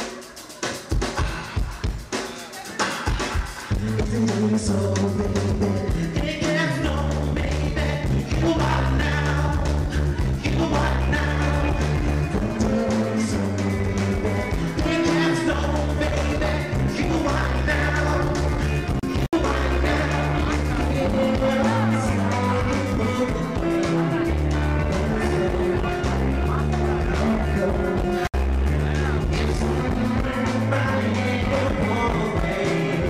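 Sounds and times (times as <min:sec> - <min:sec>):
live rock band: 0:00.0 - 0:33.0
person singing: 0:00.0 - 0:33.0.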